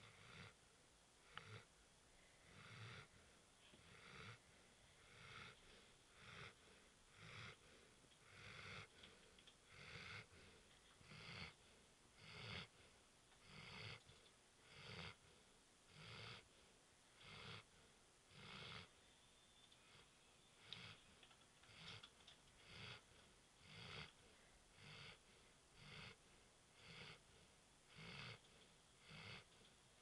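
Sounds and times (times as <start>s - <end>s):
faint wheezy snoring: 0.0s - 0.6s, 1.2s - 19.1s, 19.8s - 29.8s.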